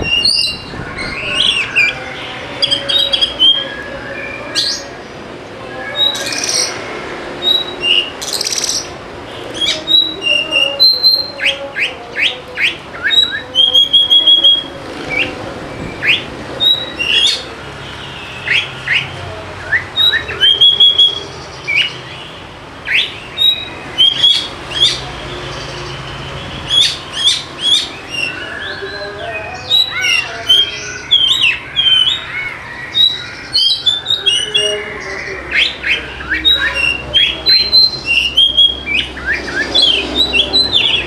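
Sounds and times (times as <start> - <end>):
bird singing whistles and trills: 0.0 - 2.0, 7.4 - 9.0, 9.6 - 17.5, 18.2 - 41.0.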